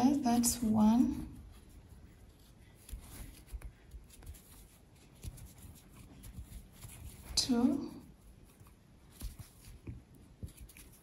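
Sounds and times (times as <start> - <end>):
yarn rustling: 0.0 - 11.0.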